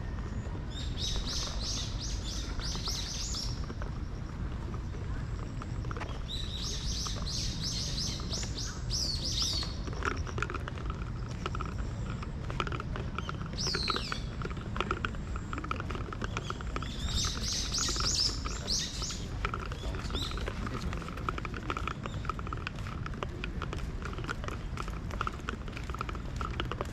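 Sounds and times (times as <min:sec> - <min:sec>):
songbird chirping: 0:00.0 - 0:25.8.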